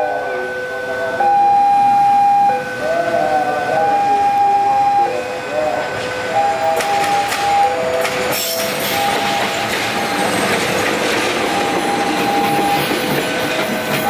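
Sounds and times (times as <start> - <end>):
locomotive engine passing: 0.0 - 14.0.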